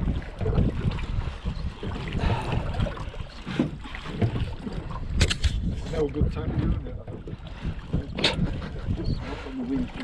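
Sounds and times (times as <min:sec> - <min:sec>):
boat and water noise: 0:00.0 - 0:10.0
wind buffeting microphone: 0:00.0 - 0:10.0.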